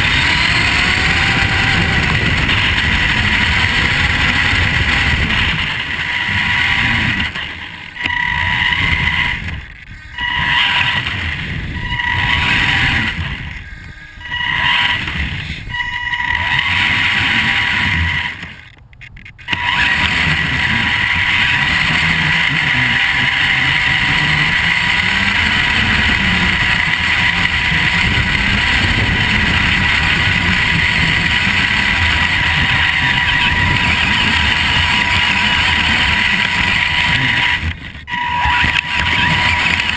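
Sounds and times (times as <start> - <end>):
electric motor whining: 0.0 - 39.9
tyres rumbling: 0.0 - 39.9.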